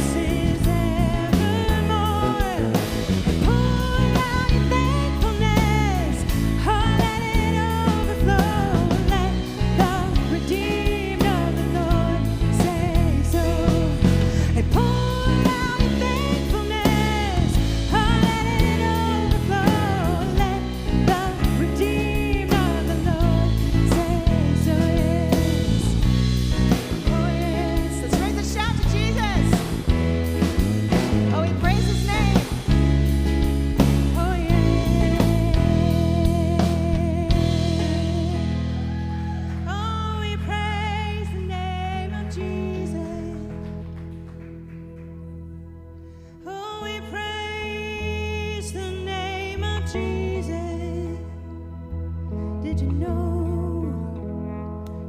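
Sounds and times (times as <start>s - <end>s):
person singing: 0.0s - 30.1s, 31.2s - 33.0s, 33.8s - 44.0s, 46.4s - 54.5s
rock band playing: 0.0s - 46.3s.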